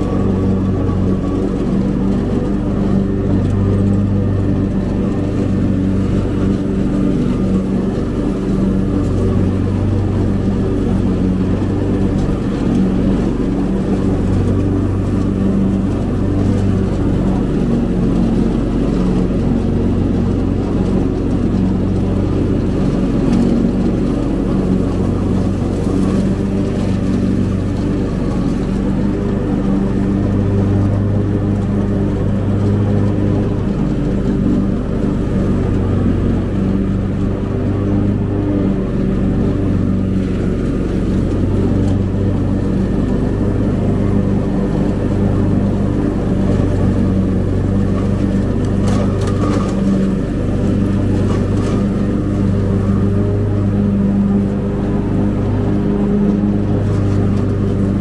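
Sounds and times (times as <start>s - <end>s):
riding mower engine running: 0.0s - 58.0s.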